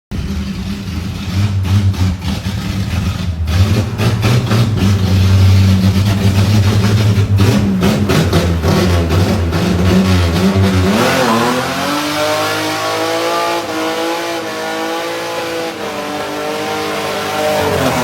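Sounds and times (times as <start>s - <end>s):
car engine exhaust rumble: 0.1s - 18.0s.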